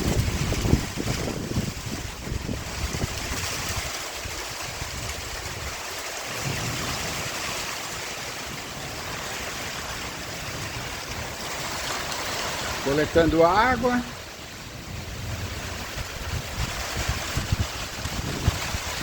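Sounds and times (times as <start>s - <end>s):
heavy rain pouring: 0.0s - 19.0s
wind rumbling on microphone: 0.0s - 19.0s.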